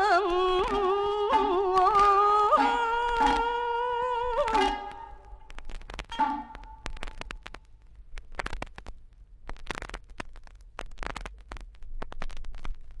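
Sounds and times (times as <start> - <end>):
vinyl record crackle and clicks: 0.0 - 13.0.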